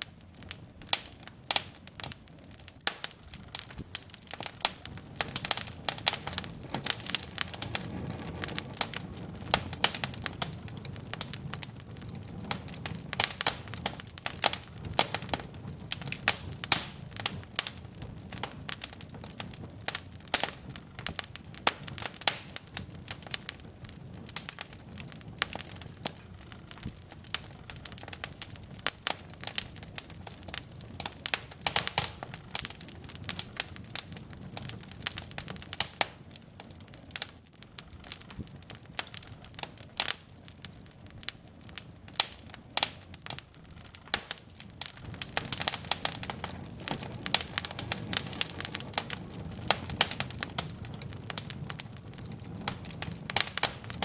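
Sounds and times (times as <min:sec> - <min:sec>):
logs crackling and popping: 0:00.0 - 0:54.0
low rush of flames: 0:00.0 - 0:54.0.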